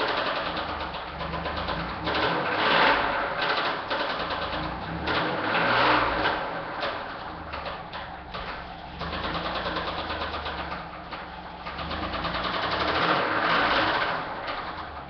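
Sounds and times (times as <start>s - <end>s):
car engine with rod knock: 0.0s - 15.0s.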